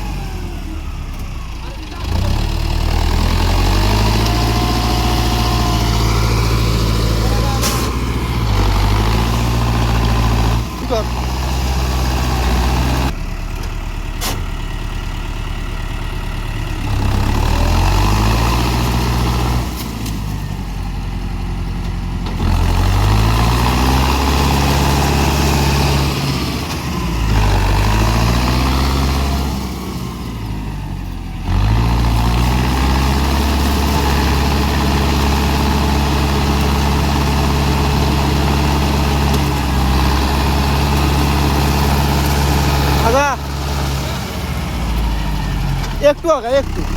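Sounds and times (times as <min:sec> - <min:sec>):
tractor diesel engine revving: 0:00.0 - 0:46.9.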